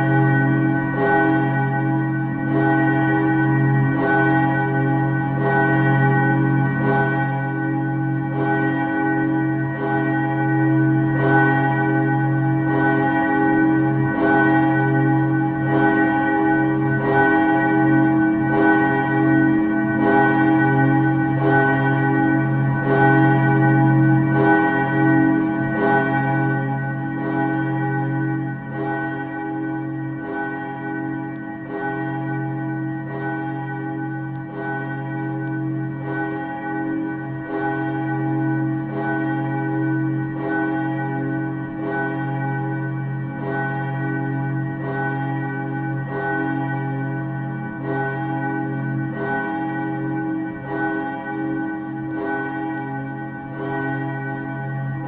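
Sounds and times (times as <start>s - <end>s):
church bell ringing: 0.0s - 55.0s.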